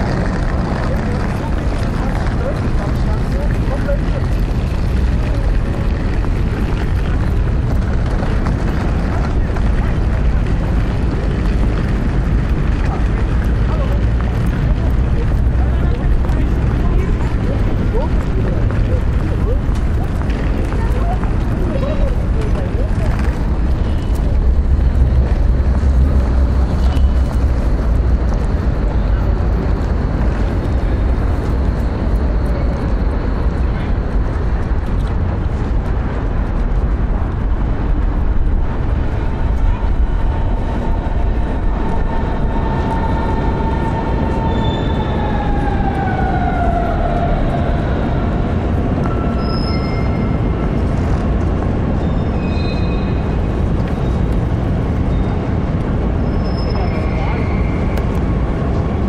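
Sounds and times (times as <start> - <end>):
electric train rumble: 0.0 - 59.0.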